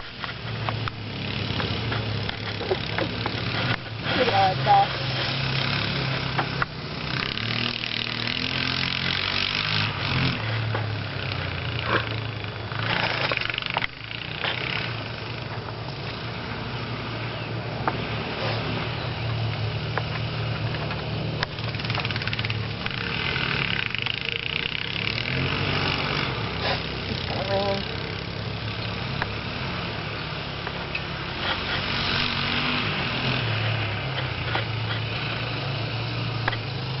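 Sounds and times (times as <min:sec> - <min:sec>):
engine running under load: 0:00.0 - 0:37.0.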